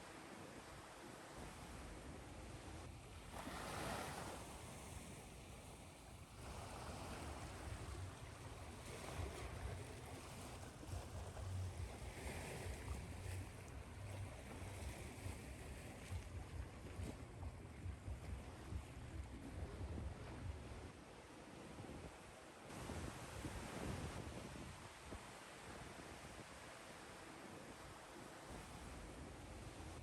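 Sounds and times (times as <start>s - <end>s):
ocean waves washing in: 3.2s - 30.0s.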